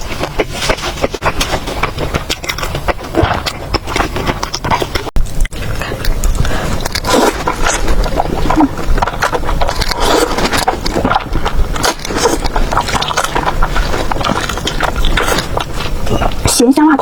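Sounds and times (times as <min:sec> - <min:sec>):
chewing and munching food: 0:00.0 - 0:17.0.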